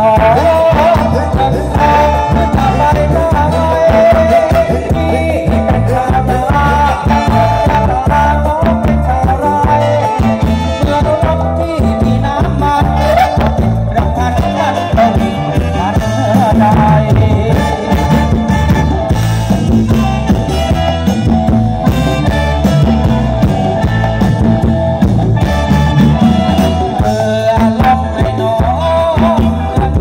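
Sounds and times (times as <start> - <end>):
person singing: 0.0 - 24.6, 25.4 - 30.0
band melody: 0.0 - 30.0
bass: 0.0 - 30.0
drum beat: 0.0 - 30.0.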